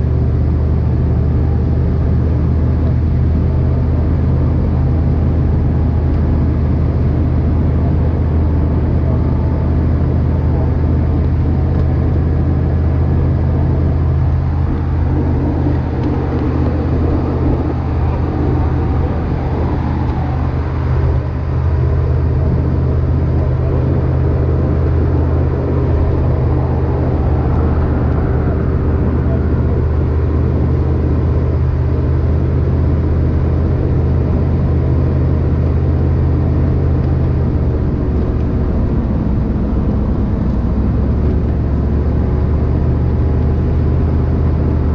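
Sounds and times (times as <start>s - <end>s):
motor vehicle engine drone: 0.0s - 44.9s.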